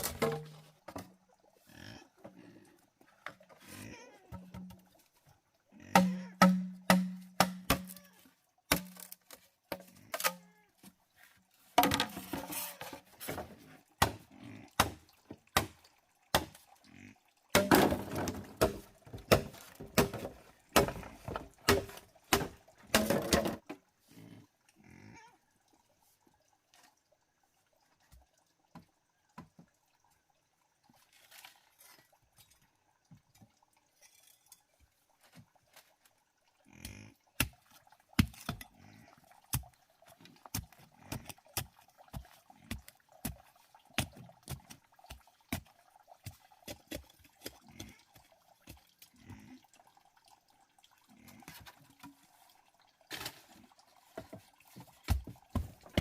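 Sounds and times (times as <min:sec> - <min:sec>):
water splashing and sloshing: 0:00.0 - 0:56.0.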